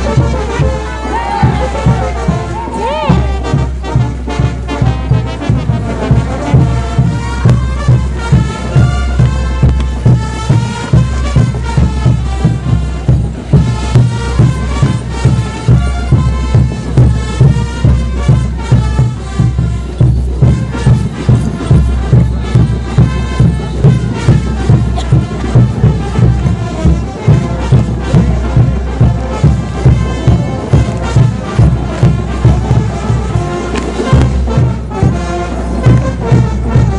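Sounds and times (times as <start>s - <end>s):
bass drum beating: 0.0s - 36.9s
brass band playing: 0.0s - 36.9s.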